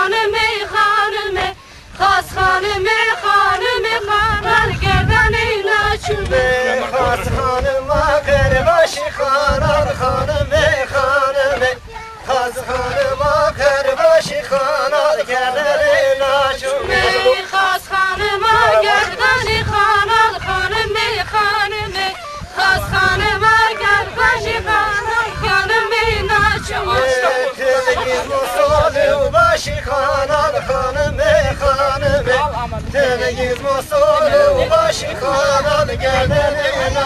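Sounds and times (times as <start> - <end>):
folk dance music: 0.0 - 37.0.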